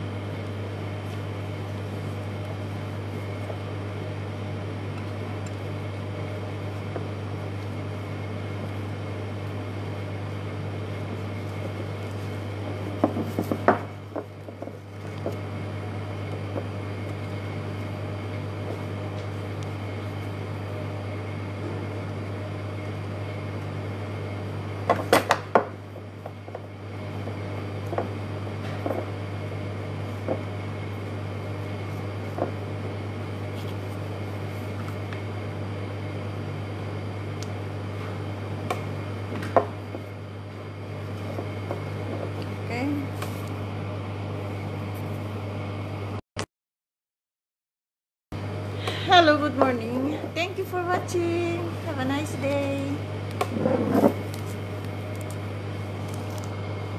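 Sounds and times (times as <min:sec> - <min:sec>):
low mechanical hum: 0:00.0 - 0:46.2, 0:48.3 - 0:56.9.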